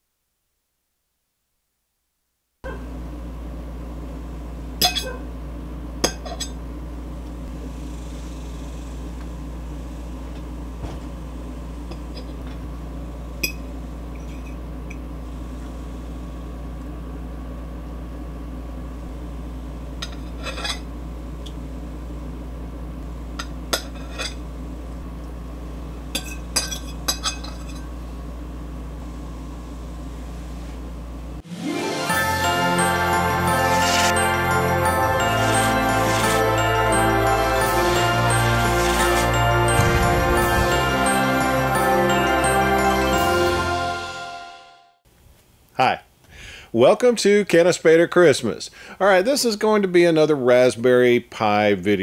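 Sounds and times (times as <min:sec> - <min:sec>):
low electrical hum: 0:00.0 - 0:31.4, 0:32.4 - 0:42.9, 0:45.1 - 0:52.0.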